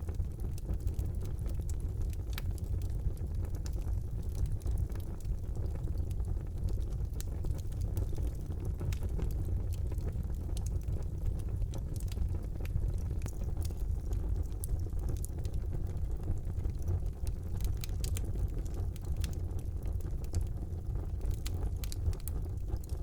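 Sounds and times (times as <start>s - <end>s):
fire crackling and popping: 0.0s - 23.0s
fire rumbling: 0.0s - 23.0s.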